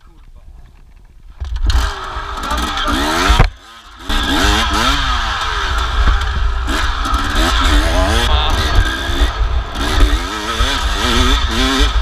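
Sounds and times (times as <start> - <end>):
dirt bike engine revving: 1.4 - 12.0.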